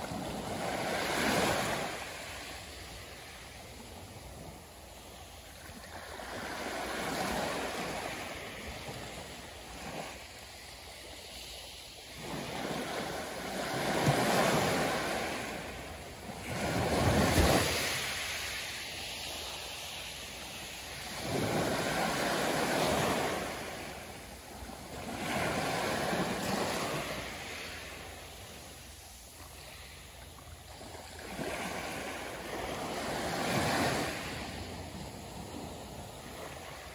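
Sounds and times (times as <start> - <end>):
small waves lapping: 0.0 - 36.9.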